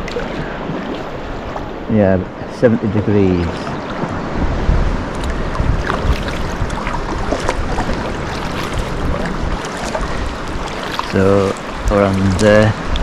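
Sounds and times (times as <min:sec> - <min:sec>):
paddle strokes: 0:00.0 - 0:13.0
water splashing around hull: 0:00.0 - 0:13.0
wind buffeting microphone: 0:00.0 - 0:13.0.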